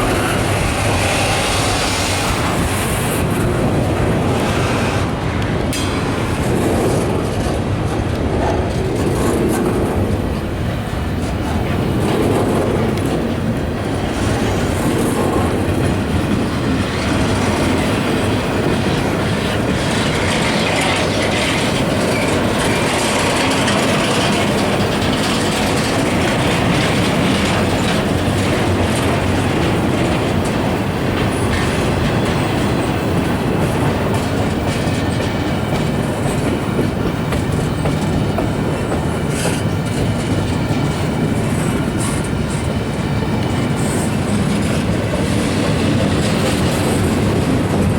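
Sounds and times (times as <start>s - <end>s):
train wheels clattering on rails: 0.0s - 47.9s.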